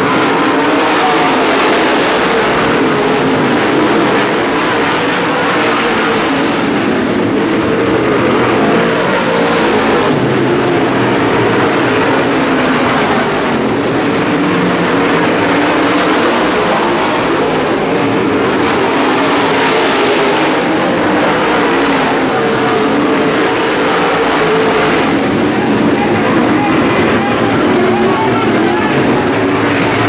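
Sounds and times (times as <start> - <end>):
stock car engines racing: 0.0 - 30.0.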